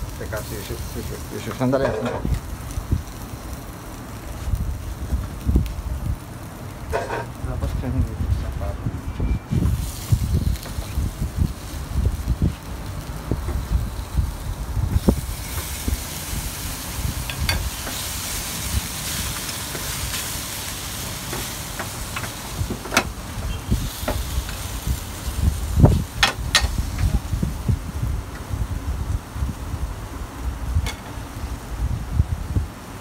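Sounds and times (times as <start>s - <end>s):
beef sizzling in a skillet: 0.0s - 7.8s, 9.5s - 28.2s.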